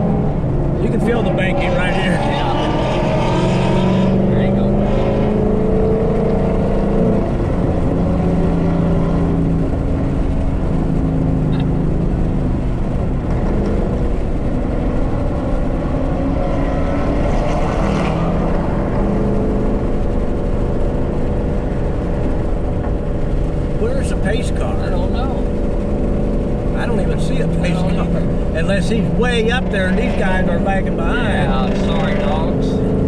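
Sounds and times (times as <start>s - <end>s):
car engine cruising: 0.0s - 33.0s
road and wind noise: 0.0s - 33.0s.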